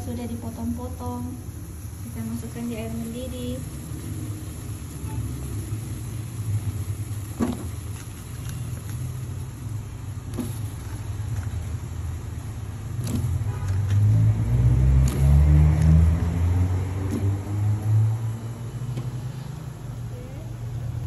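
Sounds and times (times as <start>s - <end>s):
water boiling in a pot: 0.0s - 21.0s.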